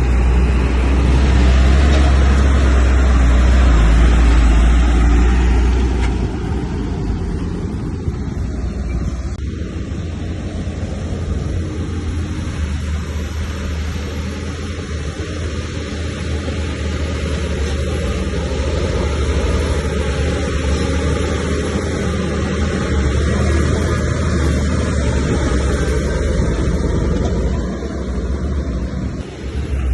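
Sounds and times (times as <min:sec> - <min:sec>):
heavy diesel engine rumbling: 0:00.0 - 0:29.9.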